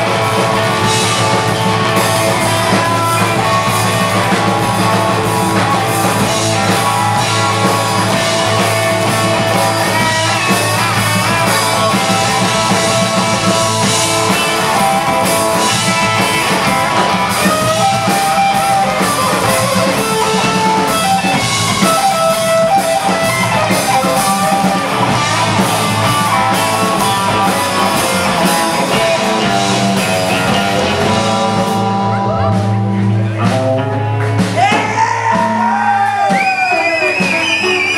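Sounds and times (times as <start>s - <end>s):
drum kit: 0.0s - 37.9s
electric bass: 0.0s - 37.9s
electric guitar: 0.0s - 37.9s.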